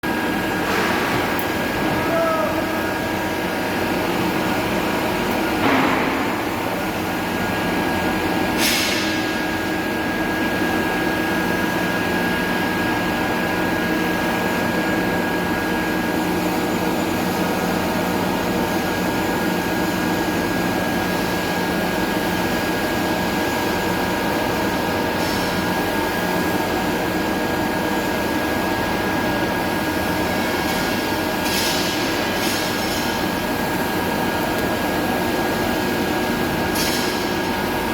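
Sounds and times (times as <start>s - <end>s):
welding hum and hiss: 0.1s - 37.9s.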